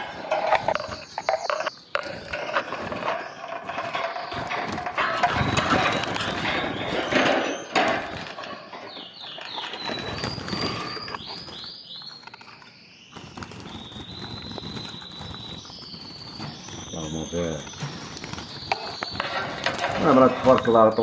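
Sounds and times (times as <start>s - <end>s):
birds fluttering wings: 0.0s - 21.0s
high twittering bird chirps: 0.0s - 21.0s.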